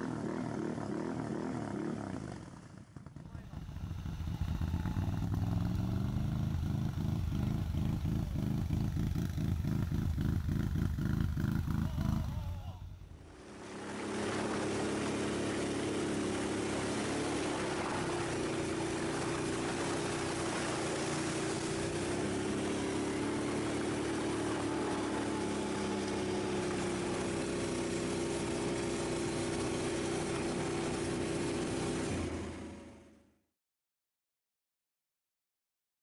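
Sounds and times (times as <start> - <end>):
atv engine running: 0.0 - 33.2.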